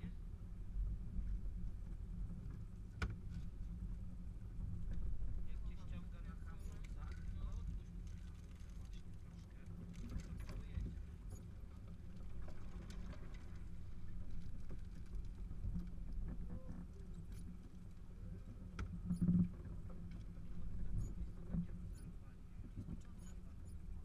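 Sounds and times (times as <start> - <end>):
low engine rumble: 0.0 - 24.0.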